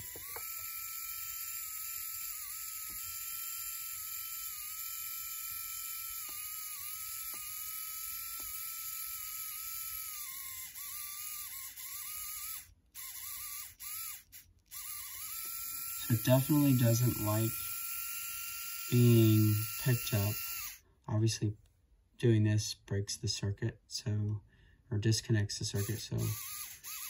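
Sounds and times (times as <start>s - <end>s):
small motor whining: 0.0s - 20.8s, 25.8s - 27.0s.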